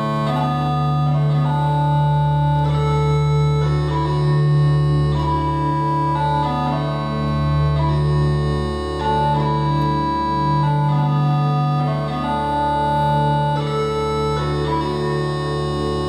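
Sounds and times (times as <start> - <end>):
bagpipes playing: 0.0 - 16.0.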